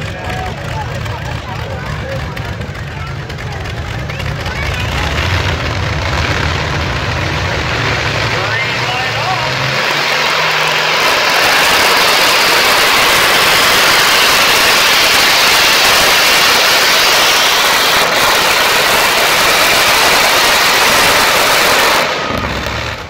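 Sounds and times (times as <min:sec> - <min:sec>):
radial aircraft engine roaring: 0:00.0 - 0:23.0.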